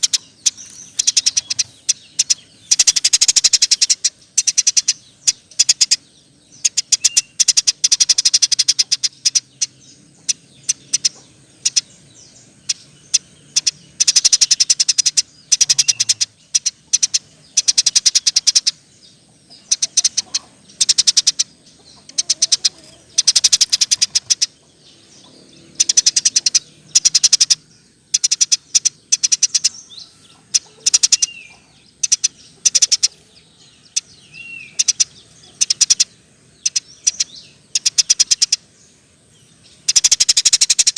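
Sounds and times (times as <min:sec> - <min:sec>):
sparrow chirping: 0:00.0 - 0:40.9.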